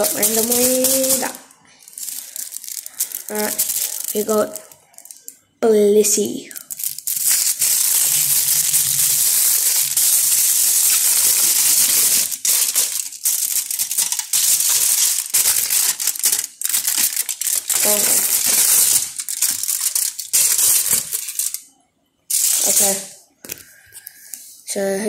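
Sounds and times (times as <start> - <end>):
foil wrapper crinkling: 0.0 - 5.3, 6.0 - 21.7, 22.3 - 24.1.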